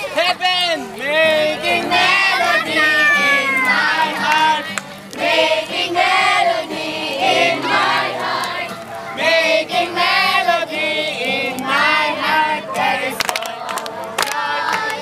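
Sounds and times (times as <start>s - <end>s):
group of young people singing: 1.0s - 15.0s.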